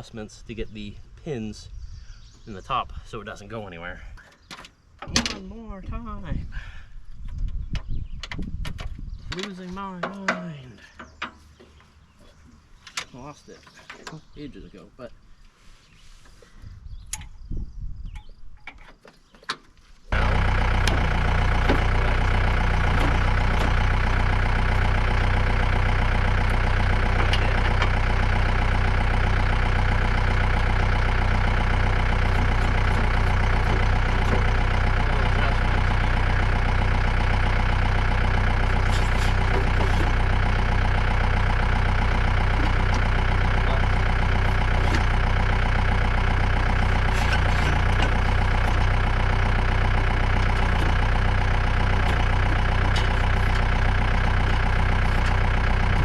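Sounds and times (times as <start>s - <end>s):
tractor engine running: 0.0s - 14.6s, 18.2s - 56.0s.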